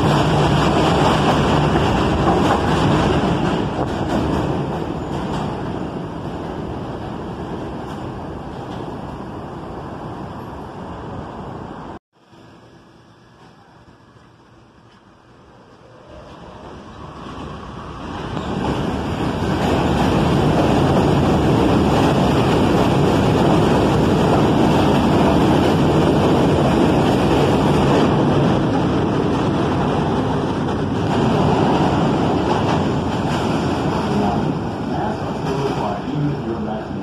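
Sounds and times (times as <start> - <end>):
train wheels rumbling on rails: 0.0 - 12.0, 14.8 - 37.0.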